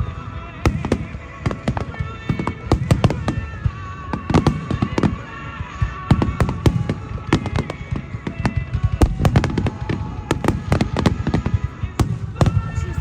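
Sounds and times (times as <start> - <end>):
fireworks bangs and cracks: 0.0 - 13.0
music playing: 0.0 - 13.0.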